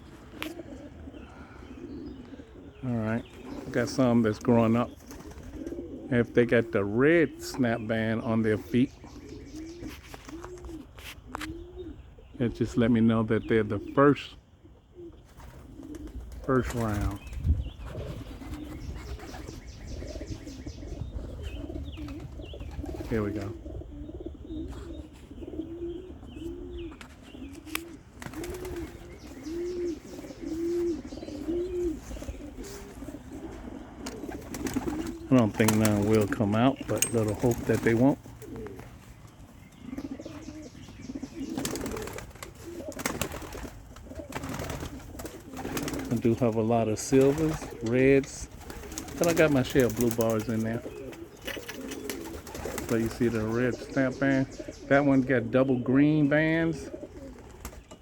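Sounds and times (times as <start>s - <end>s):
wings fluttering rustle: 0.0s - 2.5s, 3.3s - 6.1s, 8.6s - 11.9s, 15.0s - 53.9s, 56.8s - 58.0s
pigeons cooing: 0.0s - 58.0s.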